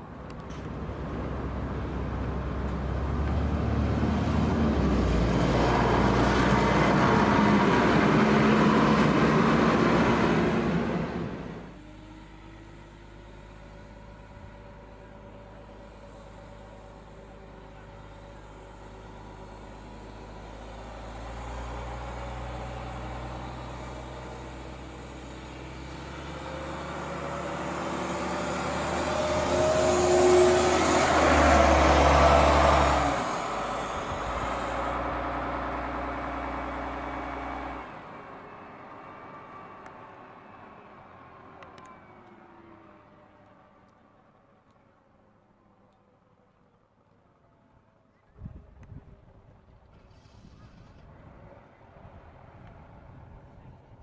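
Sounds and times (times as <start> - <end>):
bus engine accelerating: 0.0 - 47.6, 49.3 - 54.0.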